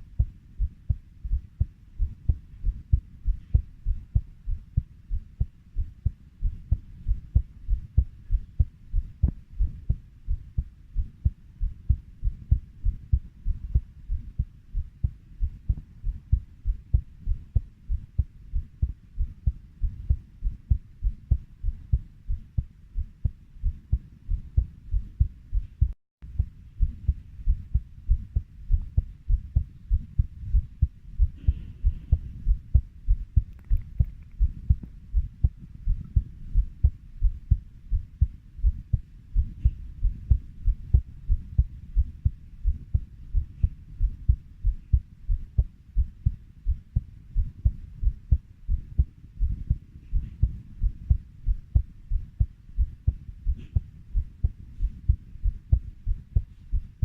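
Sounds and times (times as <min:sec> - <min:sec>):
heartbeat thumps: 0:00.0 - 0:57.0.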